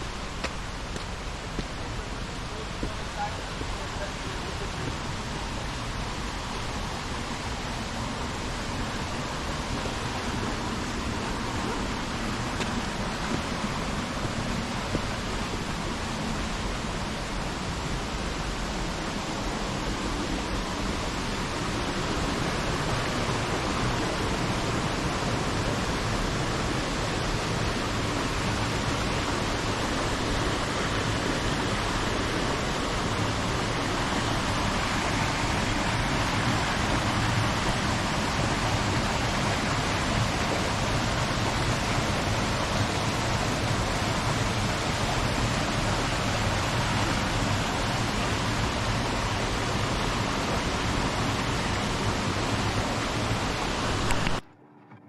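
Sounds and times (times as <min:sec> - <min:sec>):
water rushing: 0:00.0 - 0:54.5.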